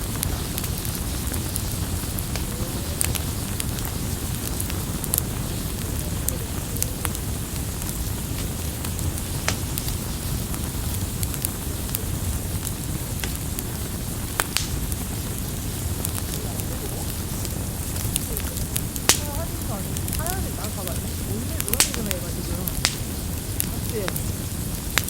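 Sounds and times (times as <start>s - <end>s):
campfire rushing: 0.0s - 25.0s
fire crackles and pops: 0.0s - 25.0s.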